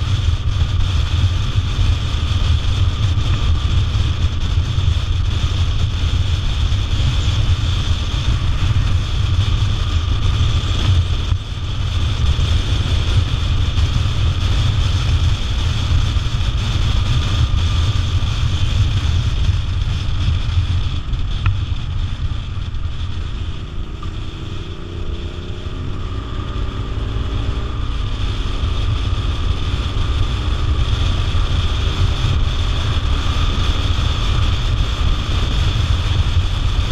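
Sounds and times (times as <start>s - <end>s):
motorcycle engine and tyre rumble: 0.0s - 36.9s
wind rushing over microphone: 0.0s - 36.9s.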